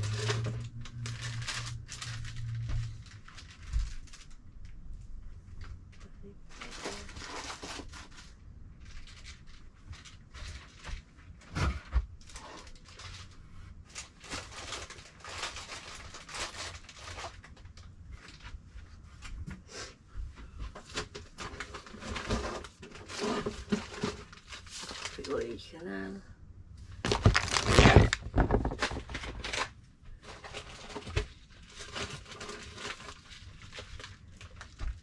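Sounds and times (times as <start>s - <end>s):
rustling of cardboard and packaging: 0.0s - 25.8s, 26.8s - 35.0s.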